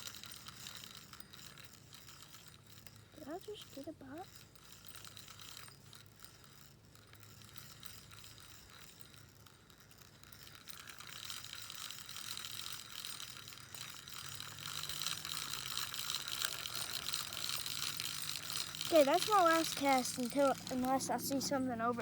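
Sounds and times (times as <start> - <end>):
fishing reel gear whir: 0.0 - 22.0.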